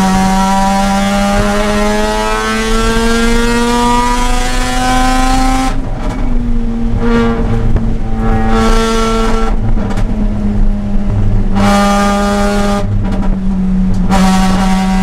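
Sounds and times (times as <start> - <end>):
rotary engine revving: 0.0 - 15.0.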